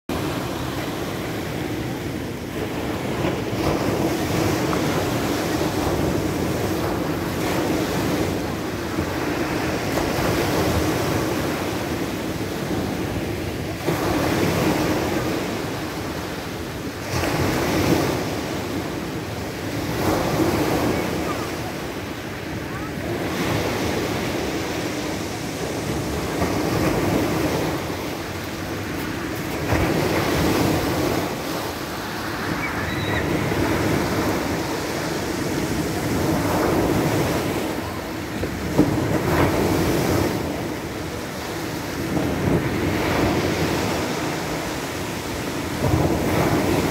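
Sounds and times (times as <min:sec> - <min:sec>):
waves washing over pebbles: 0:00.1 - 0:46.9.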